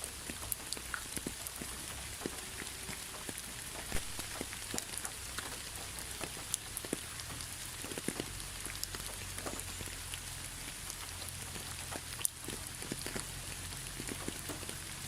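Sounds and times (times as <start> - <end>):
raindrops plinking on a surface: 0.0 - 15.0
steady rain hiss: 0.0 - 15.0.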